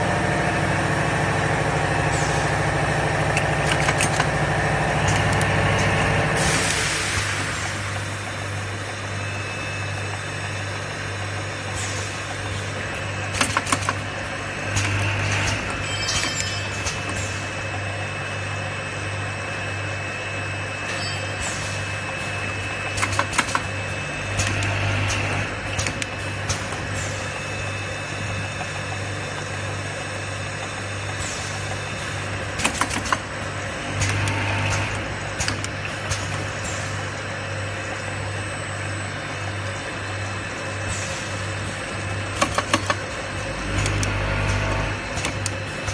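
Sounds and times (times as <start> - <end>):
machine humming: 0.0 - 45.9.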